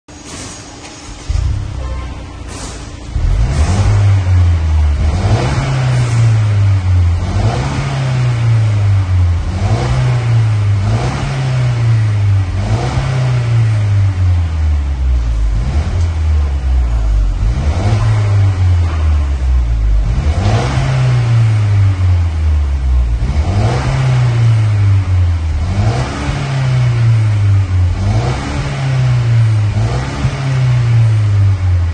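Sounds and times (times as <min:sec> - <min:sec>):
car engine revving: 0:01.0 - 0:31.9.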